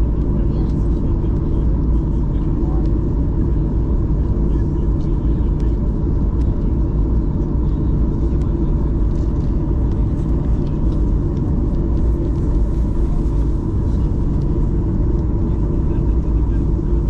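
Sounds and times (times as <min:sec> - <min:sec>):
jet engine rumble in cabin: 0:00.0 - 0:17.0
steady hum tone: 0:00.0 - 0:17.0.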